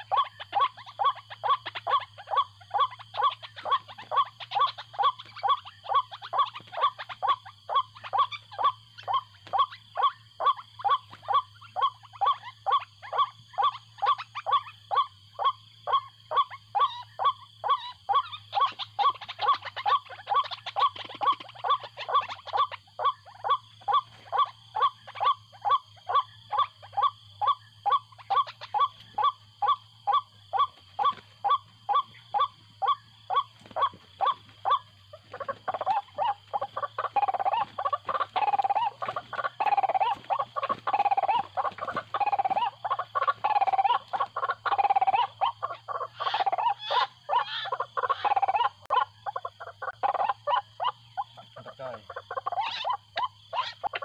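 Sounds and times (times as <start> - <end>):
waterhen calling: 0.0 - 54.0.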